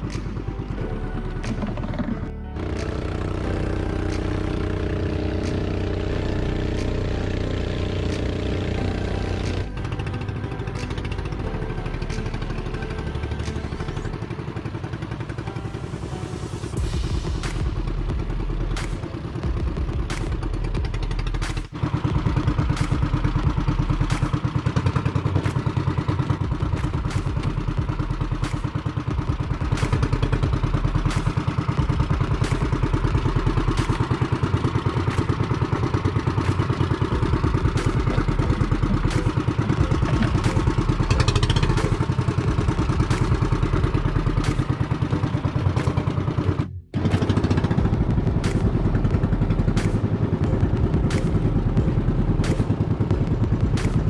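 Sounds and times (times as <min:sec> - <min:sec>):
small boat engine running: 0:00.0 - 0:54.0.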